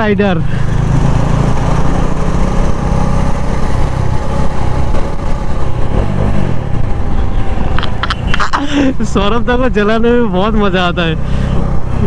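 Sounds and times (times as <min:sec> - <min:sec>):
motorcycle engine exhaust drone: 0:00.4 - 0:12.0.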